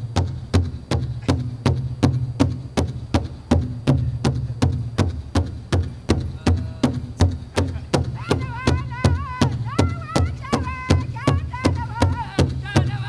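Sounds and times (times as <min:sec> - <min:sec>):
big drum steady beat: 0:00.0 - 0:13.0.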